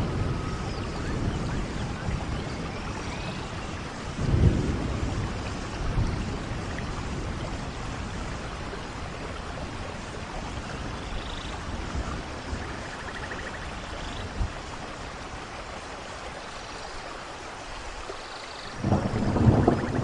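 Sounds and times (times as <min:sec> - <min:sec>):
thunder rumbling: 0:00.0 - 0:15.5, 0:18.8 - 0:20.0
steady rainfall: 0:00.0 - 0:20.0.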